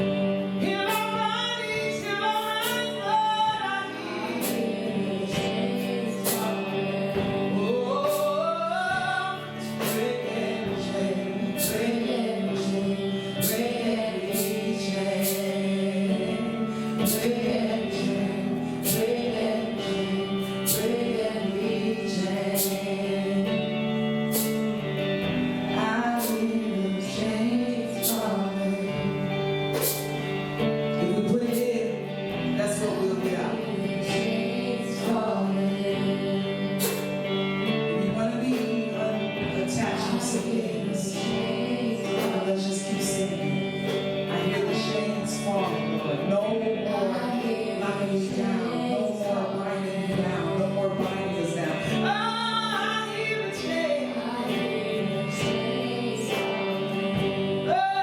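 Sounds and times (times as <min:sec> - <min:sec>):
singing over sustained chords: 0:00.0 - 0:58.0.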